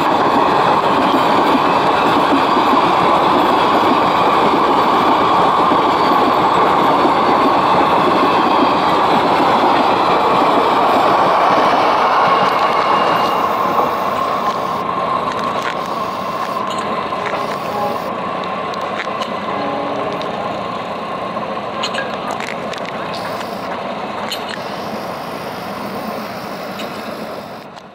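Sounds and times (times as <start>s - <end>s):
high ringing from wheels on rails: 0.0s - 27.9s
train coaches rumbling on rails: 0.0s - 27.9s.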